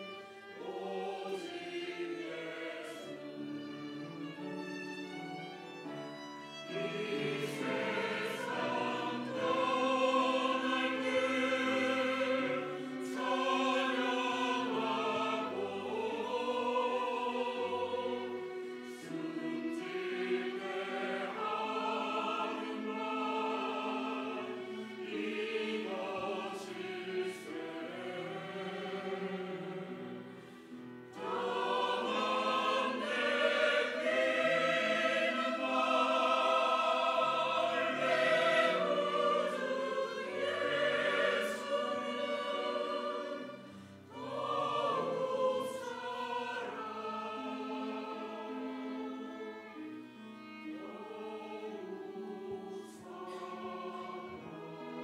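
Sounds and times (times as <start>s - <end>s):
church choir singing: 0.0s - 55.0s.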